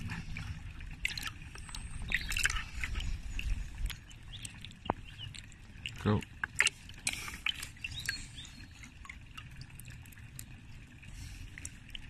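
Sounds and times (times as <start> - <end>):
water splashing in a bucket: 0.0 - 12.0.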